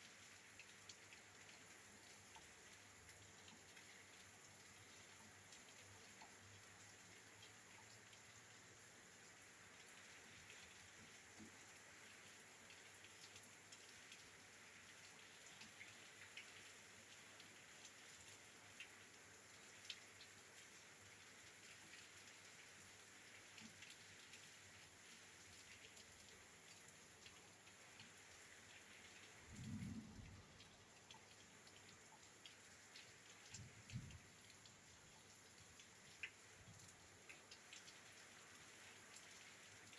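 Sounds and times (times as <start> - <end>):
rain against a window: 0.0 - 39.9.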